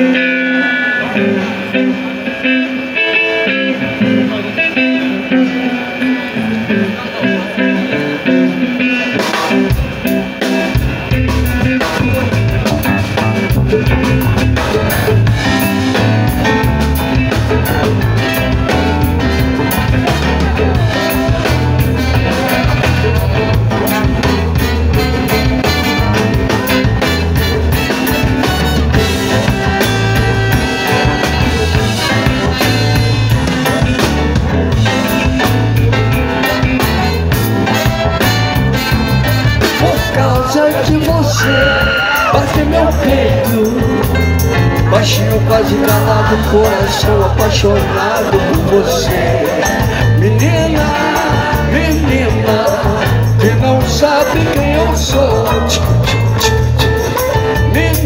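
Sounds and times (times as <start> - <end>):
electric bass: 0.0 - 58.0
electric guitar: 0.0 - 58.0
keyboard: 0.0 - 58.0
drum kit with percussion: 8.7 - 58.0.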